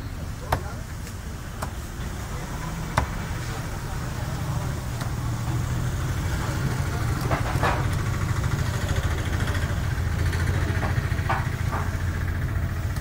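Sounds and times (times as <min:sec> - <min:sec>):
idling engine hum: 0:00.0 - 0:13.0.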